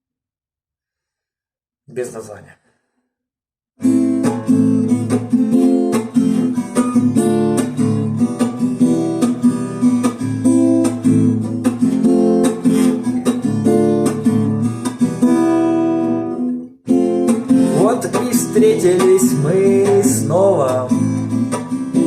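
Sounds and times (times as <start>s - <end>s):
acoustic guitar strumming: 3.8s - 22.0s.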